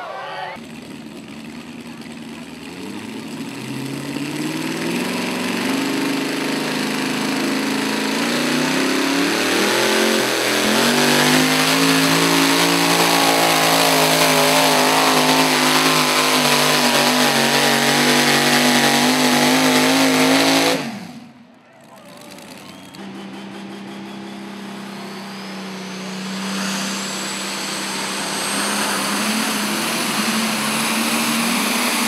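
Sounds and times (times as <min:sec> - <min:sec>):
engine at full throttle: 0:00.0 - 0:32.0.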